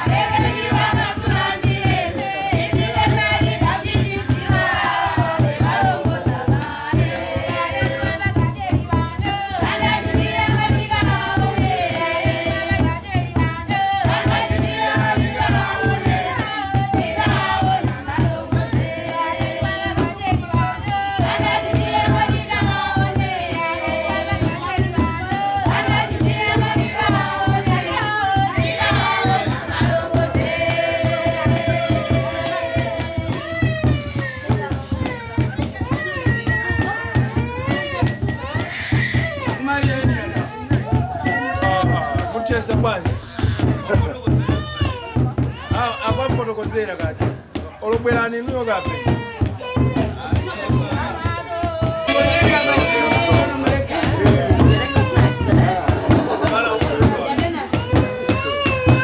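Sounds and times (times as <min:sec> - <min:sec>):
women and girls singing: 0:00.0 - 0:43.9, 0:49.6 - 0:59.0
fast hand drum beat: 0:00.0 - 0:59.0.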